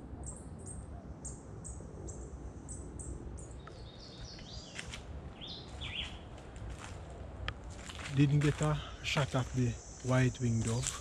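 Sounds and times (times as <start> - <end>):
small birds chirping: 0.0 - 6.9, 7.8 - 11.0.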